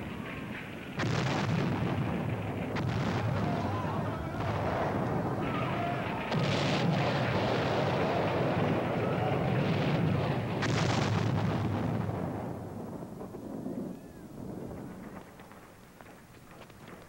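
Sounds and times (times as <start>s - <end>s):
explosions and gunfire: 0.0s - 17.0s
sharp crack: 0.0s - 17.0s.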